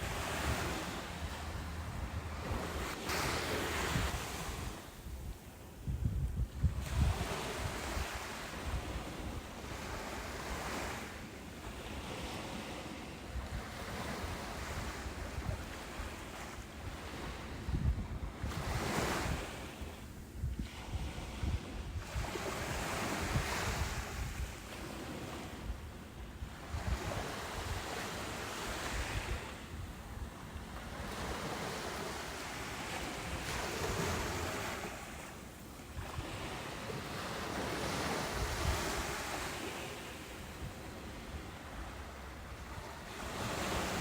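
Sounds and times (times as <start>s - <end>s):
ocean surf breaking on beach: 0.0s - 5.8s, 6.7s - 44.0s.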